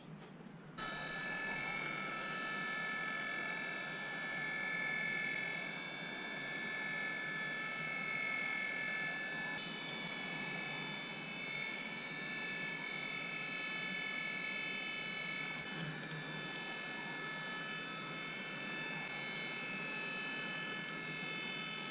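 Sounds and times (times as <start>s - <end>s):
high fan motor whine: 0.0s - 21.9s.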